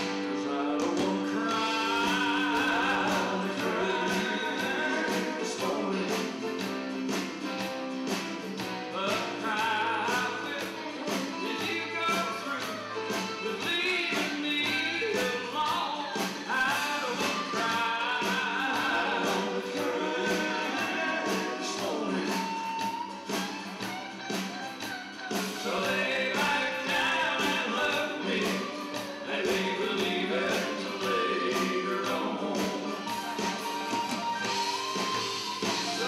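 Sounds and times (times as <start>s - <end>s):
men singing in harmony: 0.0s - 6.8s, 8.9s - 12.7s, 13.4s - 23.2s, 25.6s - 34.8s
strummed acoustic guitars: 0.0s - 36.0s.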